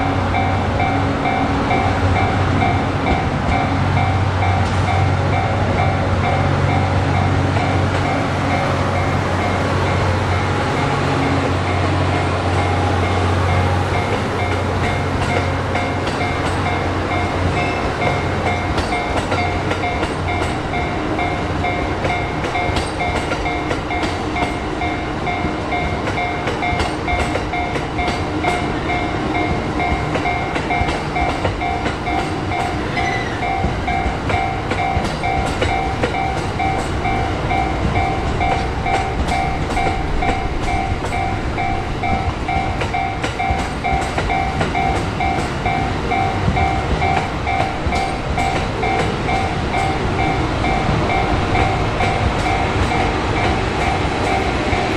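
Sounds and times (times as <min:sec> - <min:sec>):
electronic crossing warning bell: 0:00.0 - 0:54.9
train wheels clattering over rail joints: 0:00.0 - 0:54.9.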